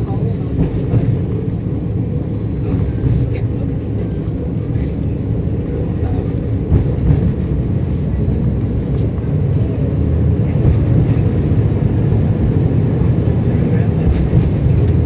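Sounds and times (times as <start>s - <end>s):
diesel engine drone: 0.0s - 15.0s
wheels rumbling on rails: 0.0s - 15.0s.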